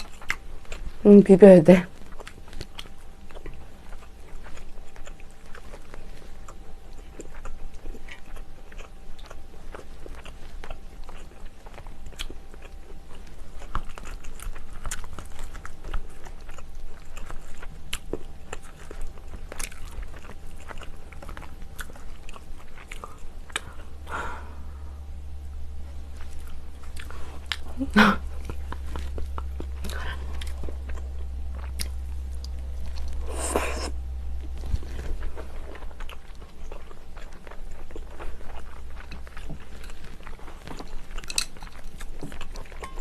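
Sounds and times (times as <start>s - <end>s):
person chewing food: 0.0s - 1.0s, 1.9s - 43.0s.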